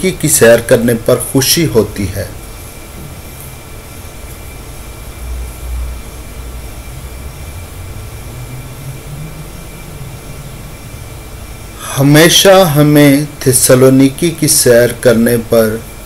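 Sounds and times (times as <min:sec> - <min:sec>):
low rumble with hiss: 0:00.0 - 0:16.0.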